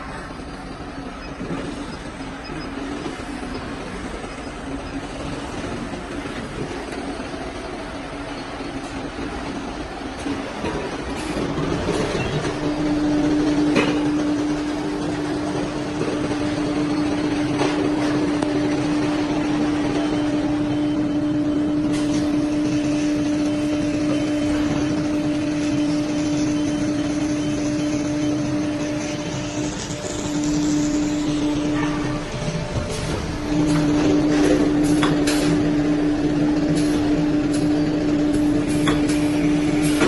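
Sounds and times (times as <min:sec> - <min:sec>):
constant machine noise: 0:00.0 - 0:40.0.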